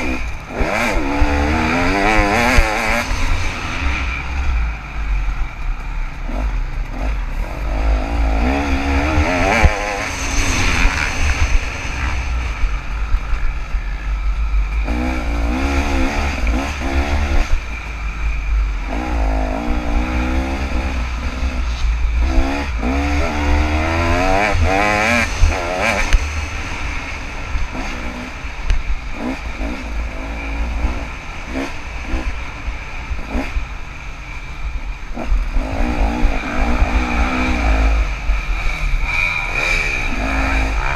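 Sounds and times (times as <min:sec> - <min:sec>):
dirt bike engine revving: 0:00.0 - 0:40.9
heavy low rumble: 0:00.0 - 0:40.9.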